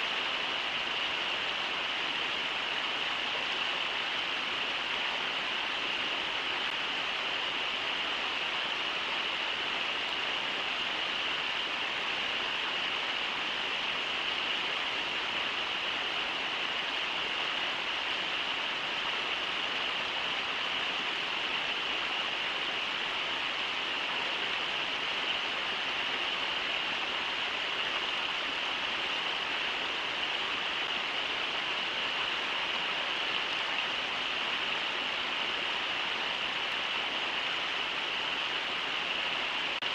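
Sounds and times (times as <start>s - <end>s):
river water rushing over riffles: 0.0s - 39.9s.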